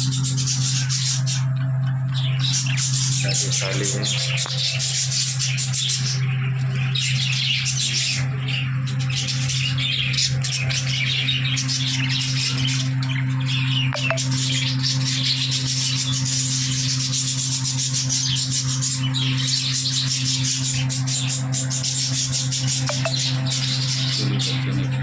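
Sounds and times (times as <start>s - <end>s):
budgerigars chirping and squawking: 0.0s - 25.0s.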